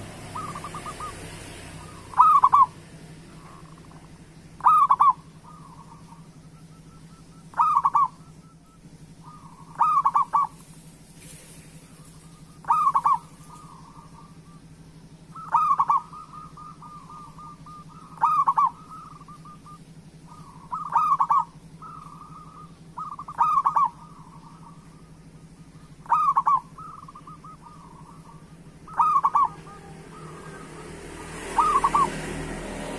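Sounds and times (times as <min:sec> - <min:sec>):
dove cooing: 0:00.0 - 0:32.9
steady low hum: 0:00.0 - 0:32.9.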